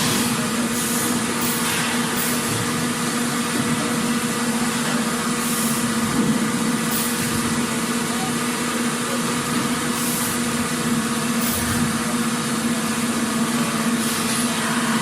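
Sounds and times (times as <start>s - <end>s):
machine noise: 0.0s - 15.0s.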